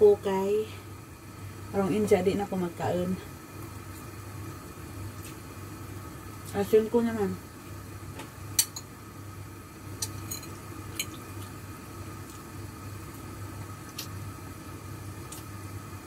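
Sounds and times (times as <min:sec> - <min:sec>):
pot simmering hum: 0:00.0 - 0:16.0.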